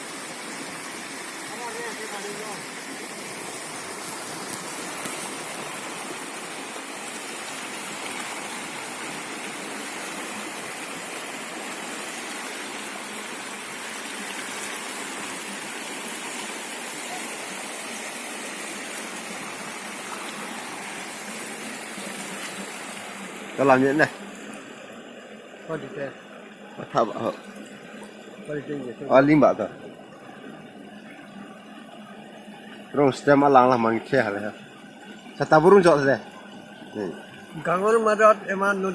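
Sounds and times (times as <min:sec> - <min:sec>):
floodwater rushing in river: 0:00.0 - 0:38.9.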